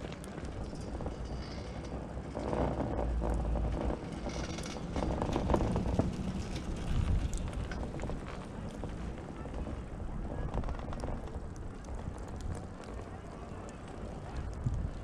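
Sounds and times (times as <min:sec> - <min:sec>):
chairlift rumbling clatter: 0:00.0 - 0:15.0.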